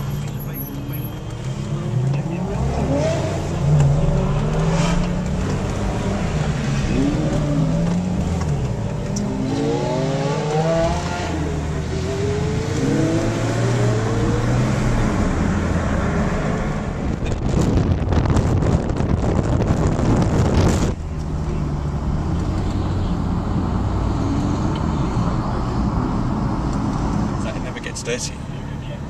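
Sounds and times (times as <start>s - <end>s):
sports car engines accelerating: 0.0s - 29.0s.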